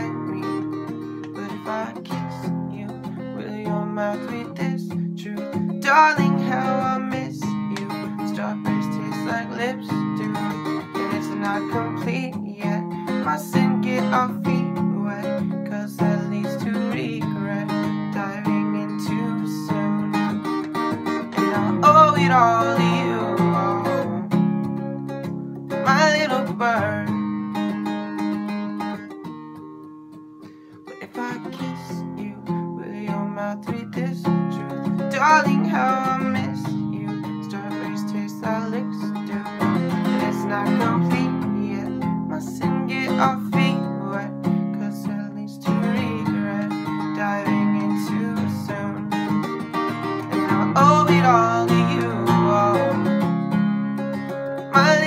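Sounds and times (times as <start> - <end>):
acoustic guitar strumming and picking: 0.0 - 55.0.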